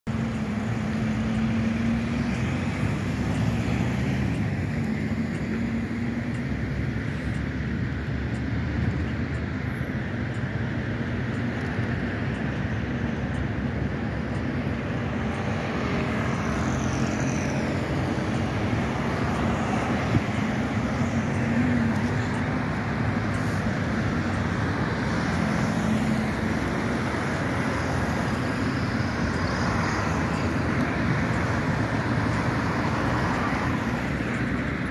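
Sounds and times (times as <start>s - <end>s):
cars driving past: 0.0s - 34.9s.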